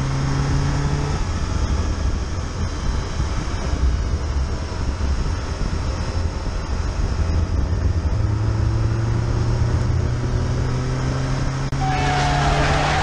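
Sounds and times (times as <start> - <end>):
car engine: 0.0 - 13.0
tyres rumbling on road: 0.0 - 13.0.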